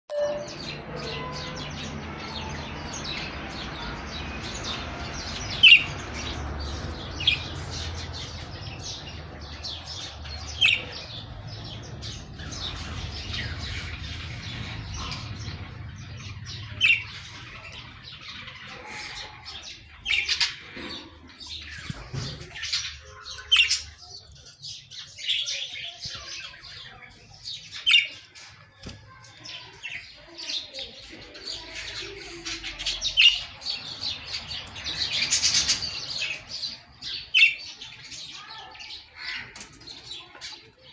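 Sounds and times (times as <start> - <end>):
budgerigars chirping and squawking: 0.1 - 40.9.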